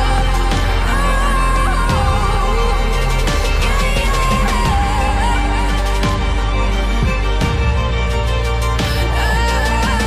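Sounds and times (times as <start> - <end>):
soundtrack music with bass: 0.0 - 10.0.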